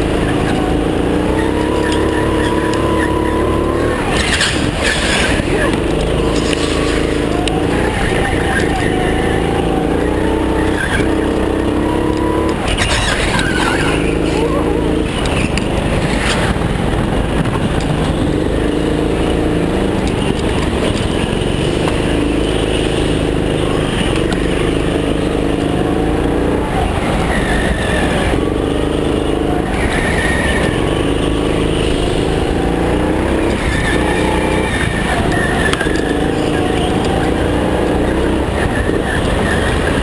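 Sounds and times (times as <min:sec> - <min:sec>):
tyres squealing on concrete: 0:00.0 - 0:16.6, 0:18.3 - 0:40.0
go-kart engine revving: 0:00.0 - 0:40.0.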